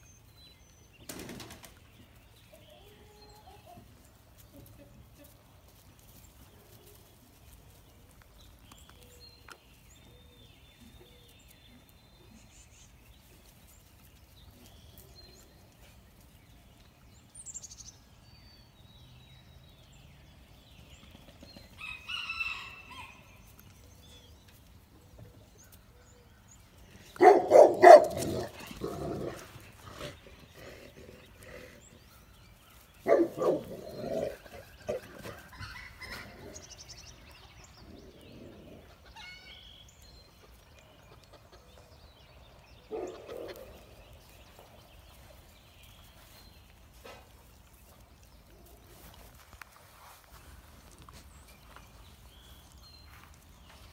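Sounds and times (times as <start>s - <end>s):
small birds chirping: 0.0s - 22.0s, 22.8s - 53.9s.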